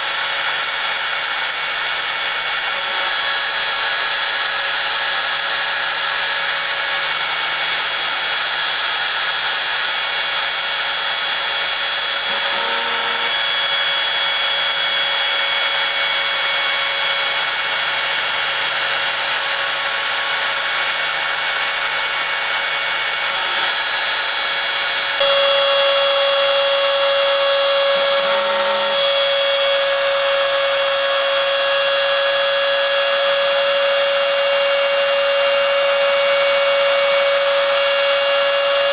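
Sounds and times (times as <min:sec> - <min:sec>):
cnc router machine whine: 0:00.0 - 0:38.9.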